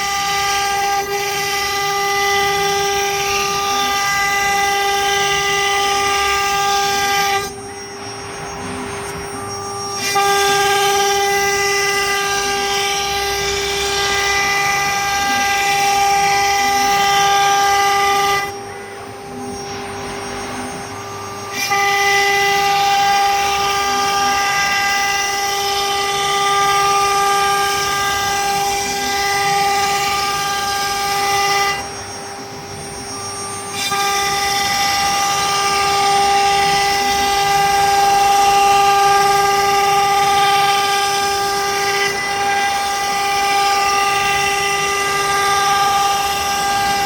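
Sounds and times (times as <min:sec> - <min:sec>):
router spindle whine: 0:00.0 - 0:47.0.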